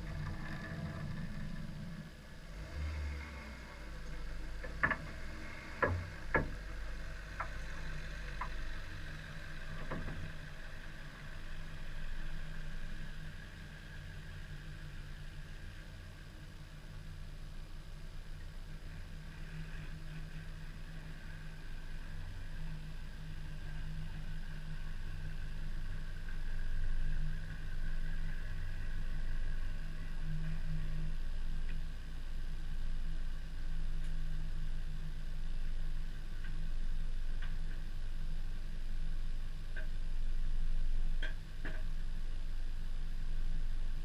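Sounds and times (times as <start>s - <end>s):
car engine humming: 0.0s - 44.0s.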